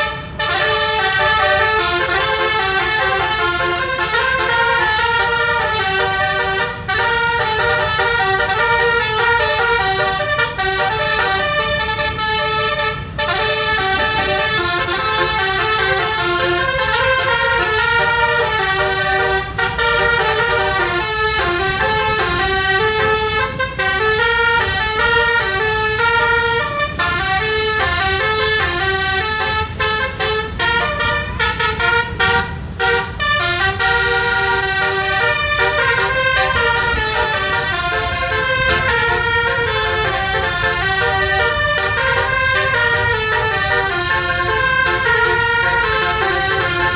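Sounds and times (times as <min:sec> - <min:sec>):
bus air horn playing a tune: 0:00.0 - 0:46.9
low engine rumble: 0:00.0 - 0:46.9.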